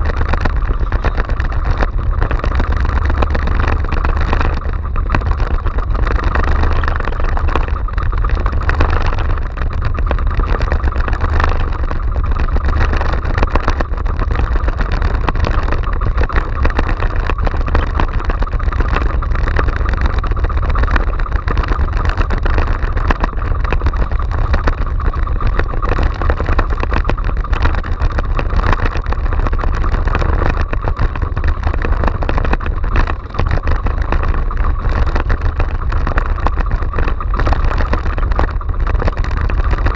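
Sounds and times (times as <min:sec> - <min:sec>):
boat engine running: 0:00.0 - 0:39.9
wind: 0:00.0 - 0:39.9.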